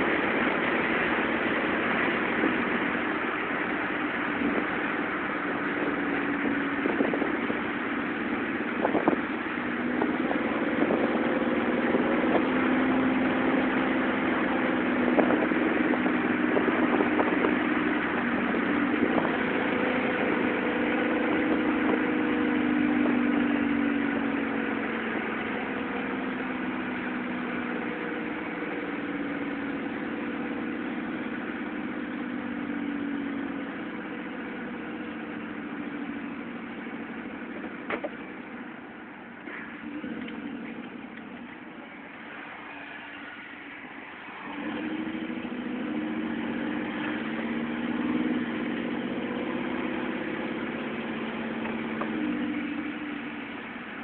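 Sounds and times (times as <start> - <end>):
truck exhaust droning: 0.0 - 54.0.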